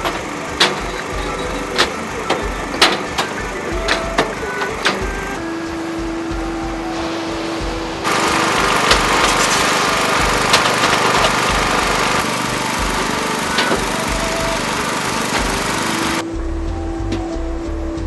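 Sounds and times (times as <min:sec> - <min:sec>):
small engine running: 0:00.0 - 0:06.4, 0:08.0 - 0:16.3
background music: 0:00.0 - 0:18.0.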